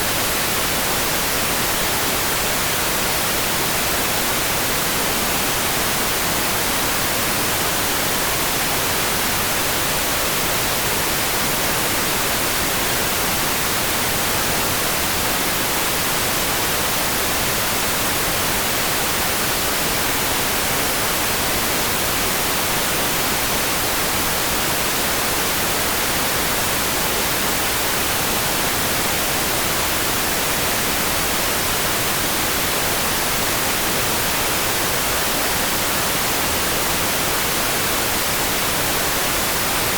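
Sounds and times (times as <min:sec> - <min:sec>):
steady hiss of rain: 0:00.0 - 0:39.9.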